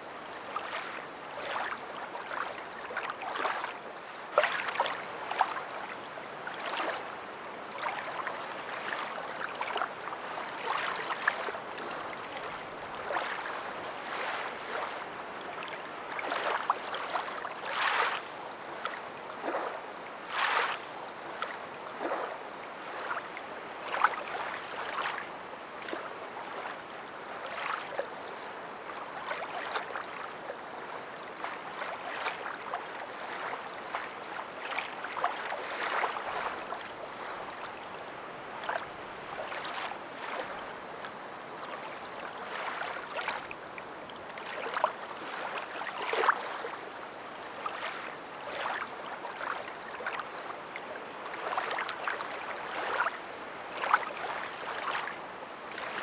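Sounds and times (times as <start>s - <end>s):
water lapping and splashing: 0.2s - 56.0s.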